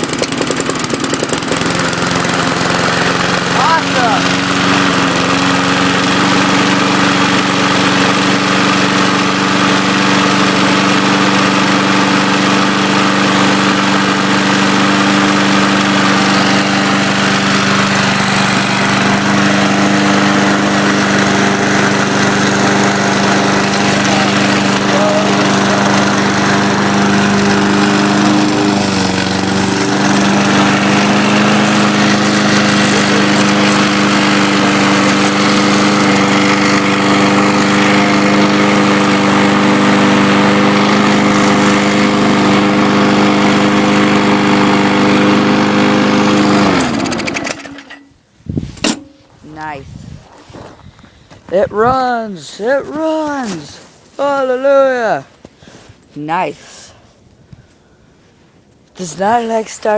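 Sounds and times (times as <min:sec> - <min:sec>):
lawn mower engine running: 0:00.0 - 0:49.8, 0:51.0 - 0:56.8.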